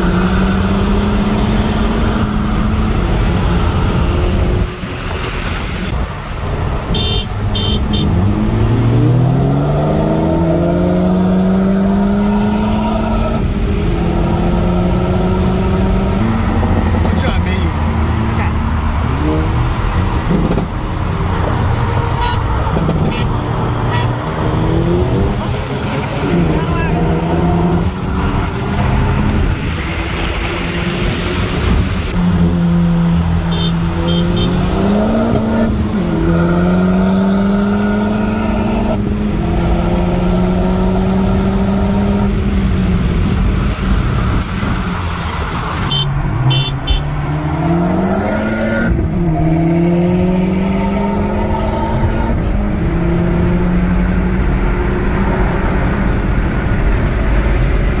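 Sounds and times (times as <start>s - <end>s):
car engine accelerating: 0.0s - 6.6s, 8.0s - 58.0s
road and wind noise: 0.0s - 58.0s.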